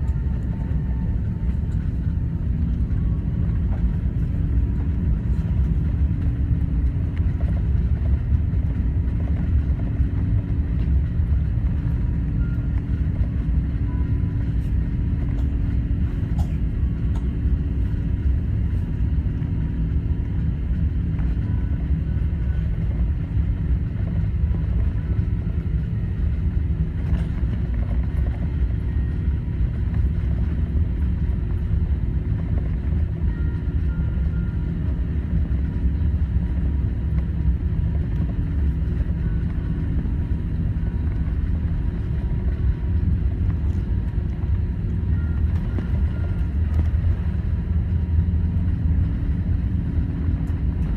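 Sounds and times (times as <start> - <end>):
jet engine rumble in cabin: 0.0 - 50.9.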